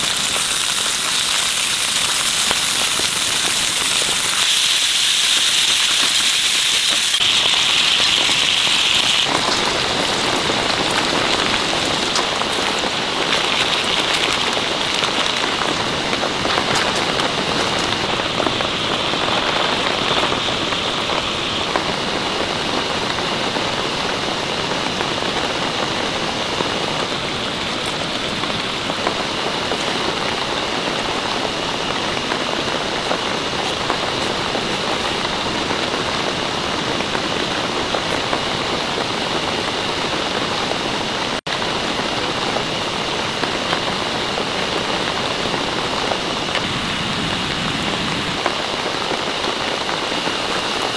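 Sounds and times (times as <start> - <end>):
heavy rain on a tent: 0.0 - 50.9.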